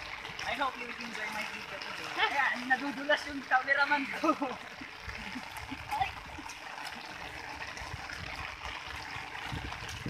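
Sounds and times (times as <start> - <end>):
rain falling on water: 0.0 - 10.0
water running: 0.0 - 10.0.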